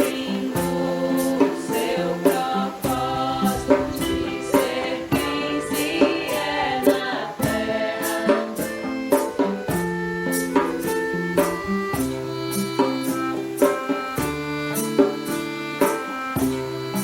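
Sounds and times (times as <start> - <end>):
choral singing: 0.0 - 17.0
light percussive beat: 0.0 - 17.0
sustained instrumental chords: 0.0 - 17.0.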